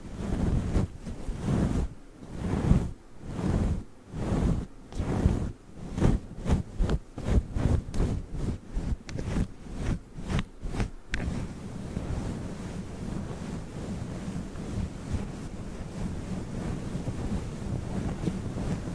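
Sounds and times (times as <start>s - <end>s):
furry mic cover rubbing: 0.0s - 18.9s.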